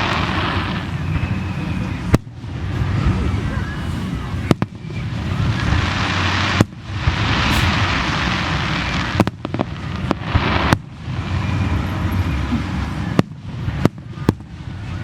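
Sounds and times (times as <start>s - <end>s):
fireworks bangs: 0.0s - 15.0s
fireworks hissing rush: 0.0s - 15.0s.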